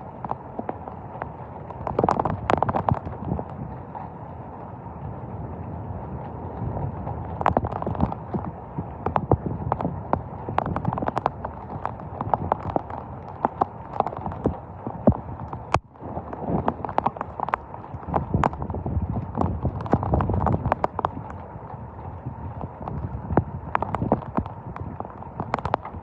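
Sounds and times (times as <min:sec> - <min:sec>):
heavy rain: 0:00.0 - 0:26.0
wind: 0:00.0 - 0:26.0.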